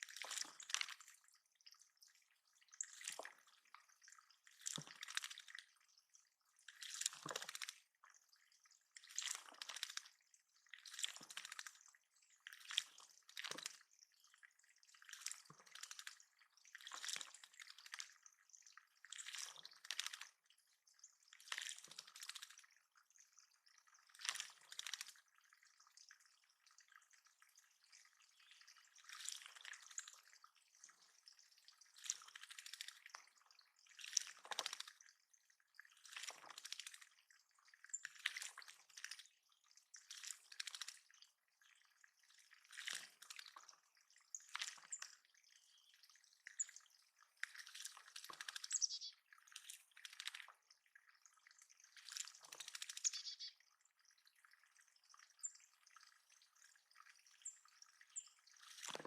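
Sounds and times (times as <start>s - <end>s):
water dripping and splashing: 0.0s - 59.0s.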